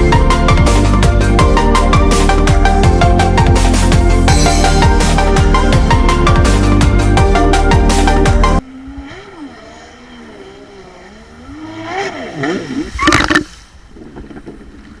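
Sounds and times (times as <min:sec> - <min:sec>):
jet ski engine revving: 0:00.5 - 0:15.0.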